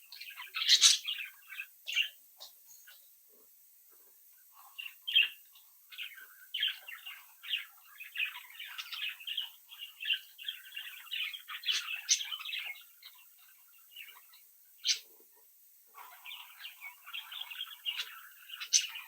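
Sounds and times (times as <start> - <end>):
budgerigars chattering and warbling: 0.0 - 3.0, 4.6 - 15.2, 16.0 - 19.0.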